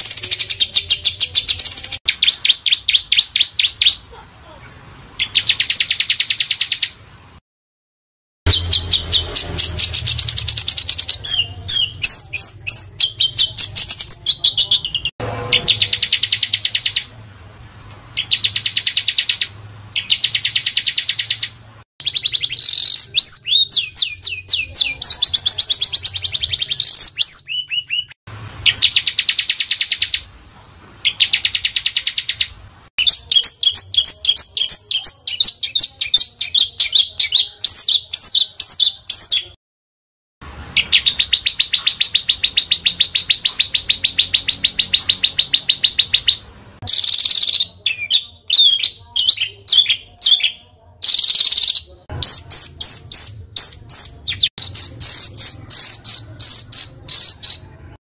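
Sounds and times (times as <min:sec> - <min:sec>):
songbirds singing: 0:00.0 - 0:07.0, 0:08.5 - 0:17.1, 0:18.1 - 0:30.3, 0:31.0 - 0:39.6, 0:40.7 - 0:58.0.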